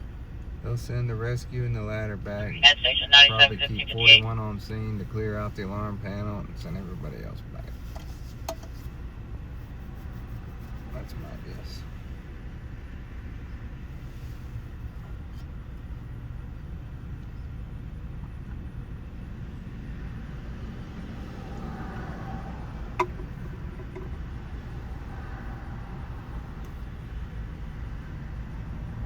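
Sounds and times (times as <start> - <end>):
vehicle interior rumble: 0.0 - 29.0.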